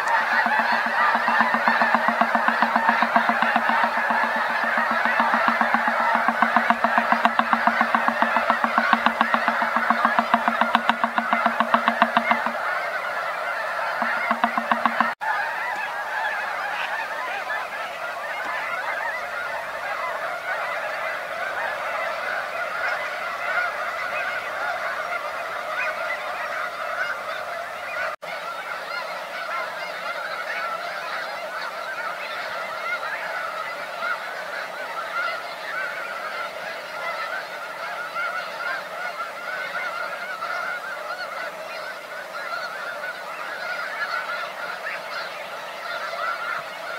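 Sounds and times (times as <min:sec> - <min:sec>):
snow geese honking: 0:00.0 - 0:46.9.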